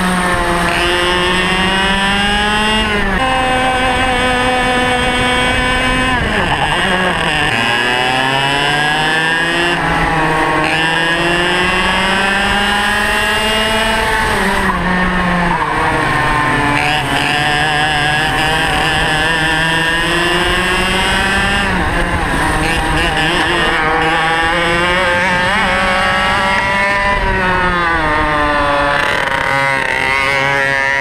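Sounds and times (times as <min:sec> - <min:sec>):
kart engine at full throttle: 0:00.0 - 0:31.0.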